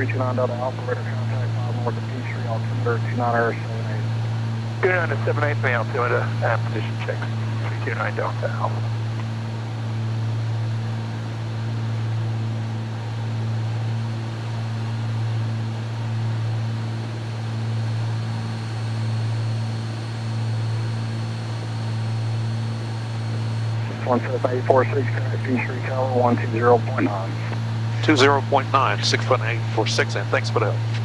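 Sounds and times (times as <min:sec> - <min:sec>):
twin piston engines droning: 0:00.0 - 0:08.9, 0:13.9 - 0:31.0.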